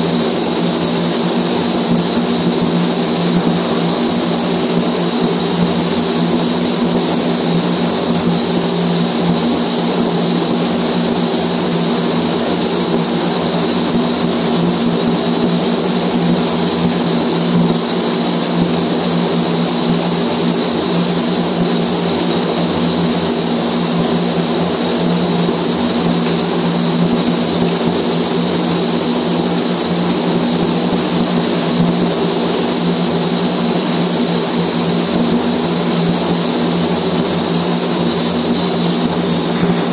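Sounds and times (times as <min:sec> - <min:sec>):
low hum: 0:00.0 - 0:39.9.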